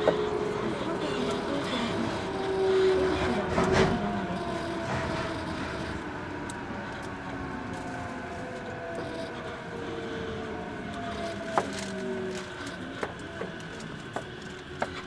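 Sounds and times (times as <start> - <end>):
traction motor whine: 0.0 - 15.0
wheel and track rumble: 0.0 - 15.0.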